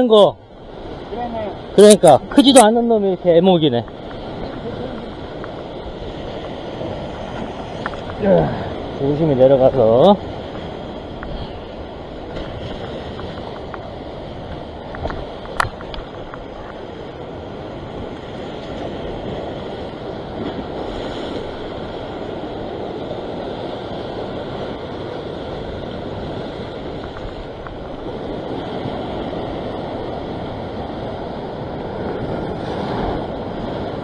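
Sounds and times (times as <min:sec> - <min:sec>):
sea surf washing over rocks: 0:00.0 - 0:34.0.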